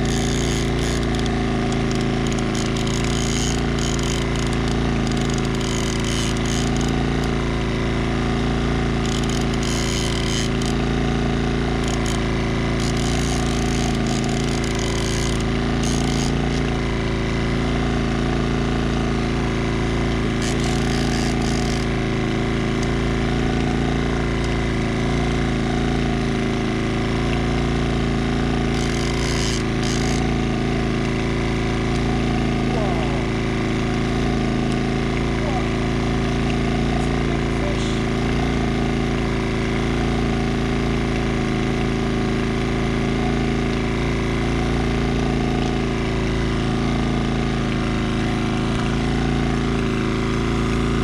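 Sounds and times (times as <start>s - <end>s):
outboard motor running: 0.0s - 51.0s.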